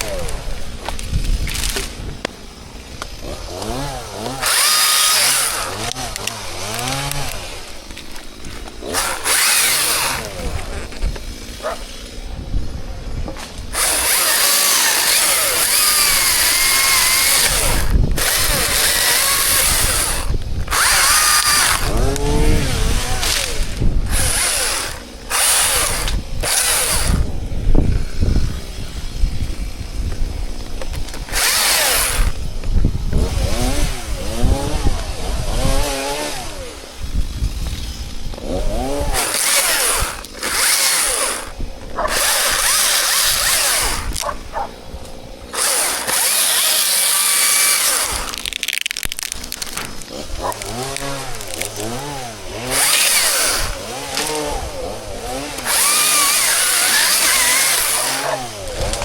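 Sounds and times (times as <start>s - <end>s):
chainsaw running: 0.0s - 59.0s.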